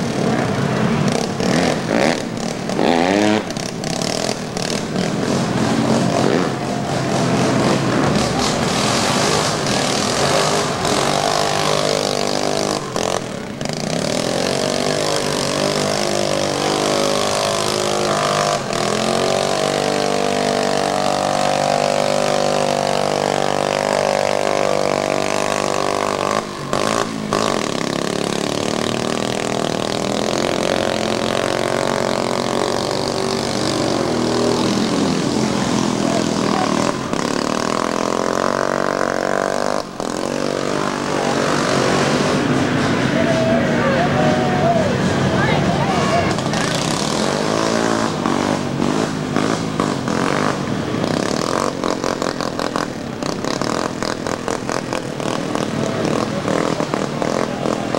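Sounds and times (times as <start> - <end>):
atv engines revving: 0.0 - 57.9.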